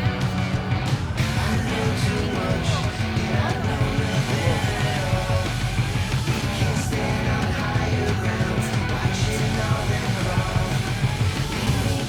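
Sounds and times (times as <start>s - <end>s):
rock music with distorted guitar: 0.0s - 12.0s.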